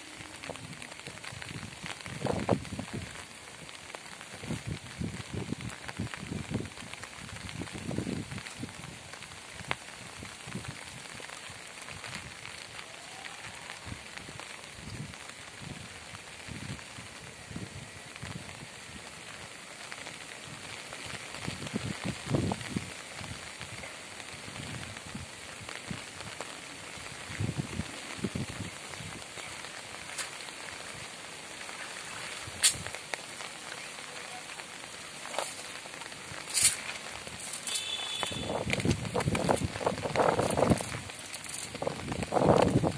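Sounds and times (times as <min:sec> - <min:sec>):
light rain pattering on water: 0:00.0 - 0:42.9.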